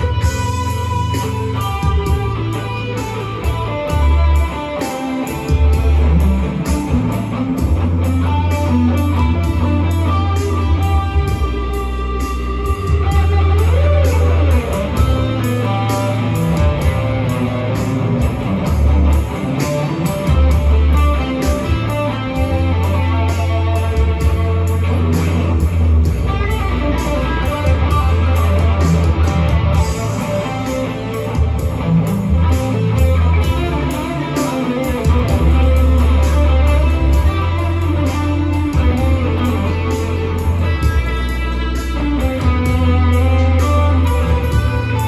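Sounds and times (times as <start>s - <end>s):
bass line: 0.0s - 45.0s
electric guitar lead melody: 0.0s - 45.0s
steady drum beat: 0.0s - 45.0s.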